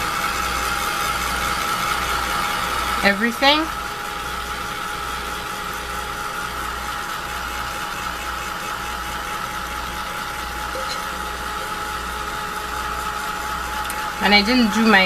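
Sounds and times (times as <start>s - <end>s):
heat tool fan whining: 0.0s - 15.0s.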